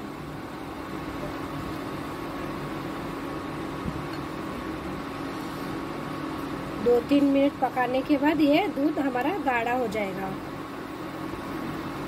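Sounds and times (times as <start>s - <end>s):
cooktop electric hum and fan: 0.0s - 12.0s.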